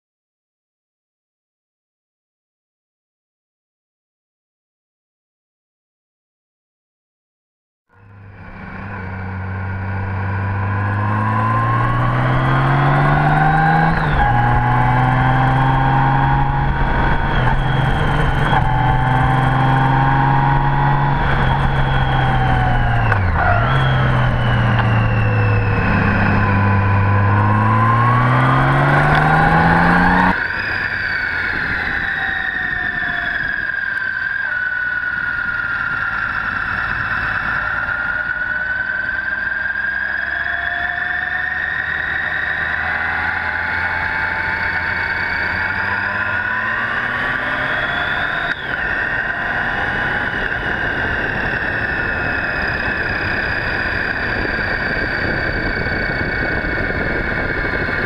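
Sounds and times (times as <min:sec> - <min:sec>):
motorcycle engine shifting gears: 0:08.0 - 0:58.0.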